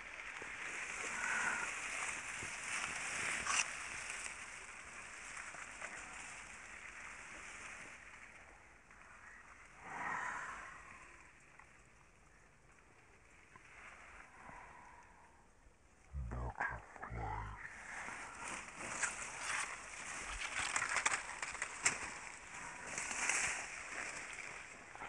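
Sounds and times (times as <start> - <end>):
dry grass rustling: 0.0 - 15.4, 17.2 - 25.0.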